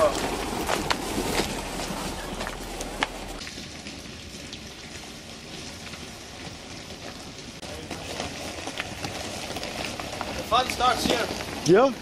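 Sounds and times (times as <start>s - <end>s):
tyres crunching over gravel: 0.0s - 12.0s.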